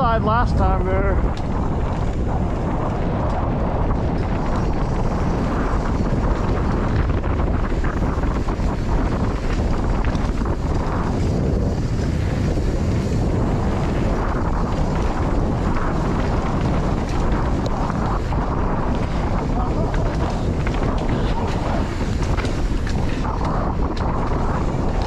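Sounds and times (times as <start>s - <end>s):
bike rattling: 0.0s - 25.0s
tyres rumbling over dirt: 0.0s - 25.0s
wind buffeting microphone: 0.0s - 25.0s.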